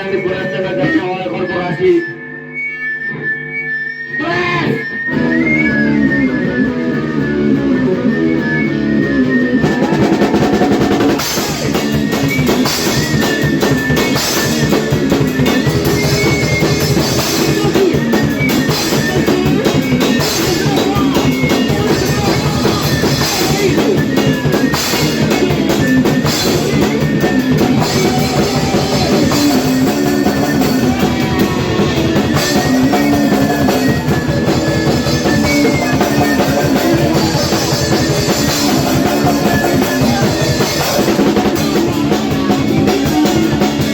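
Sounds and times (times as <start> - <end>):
rapid drum kit beat: 0.0 - 1.5, 4.2 - 43.9
distorted electric guitar: 0.0 - 43.9
punk band playing: 0.0 - 43.9.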